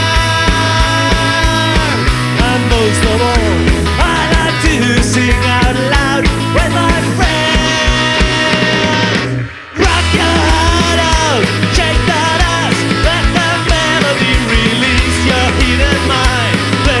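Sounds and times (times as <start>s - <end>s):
drum beat: 0.0s - 9.2s, 9.8s - 17.0s
punk rock band playing: 0.0s - 17.0s.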